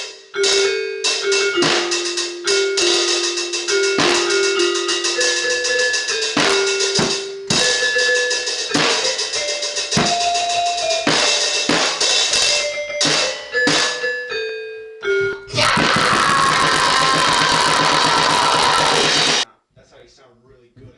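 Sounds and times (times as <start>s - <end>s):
drum kit played fast: 0.0s - 14.0s, 15.5s - 19.5s.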